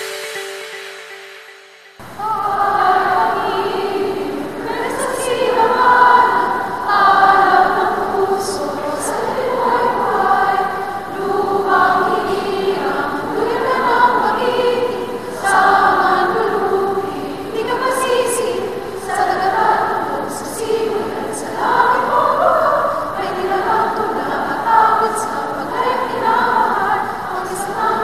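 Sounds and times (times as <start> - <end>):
choir singing a hymn: 2.0 - 28.0.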